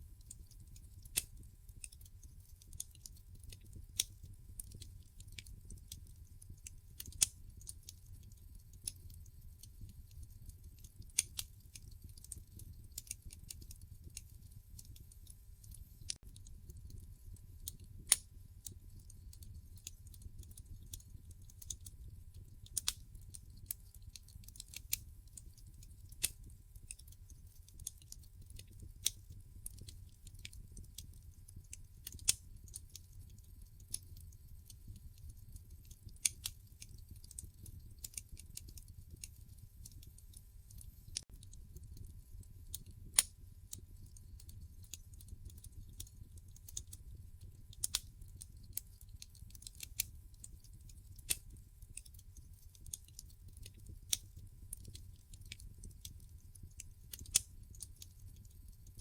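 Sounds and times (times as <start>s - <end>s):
wood fire crackling and popping: 0.1s - 59.0s
low fire rumble: 0.2s - 58.4s.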